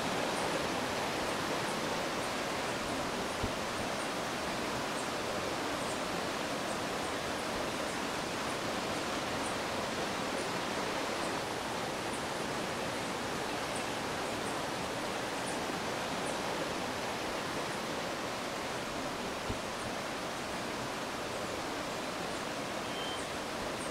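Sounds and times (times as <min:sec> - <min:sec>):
mountain stream rushing: 0:00.0 - 0:23.9.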